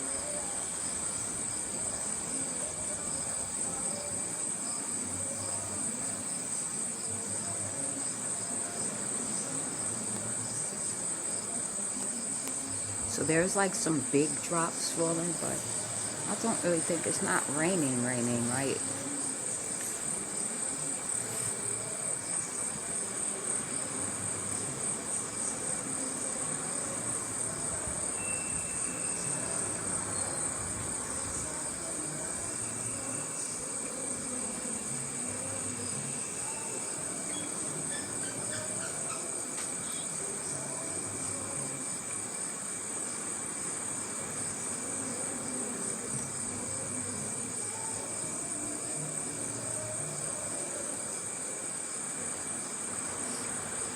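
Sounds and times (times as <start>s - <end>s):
crickets chirring: 0.0s - 53.9s
low insect tone: 0.0s - 53.9s.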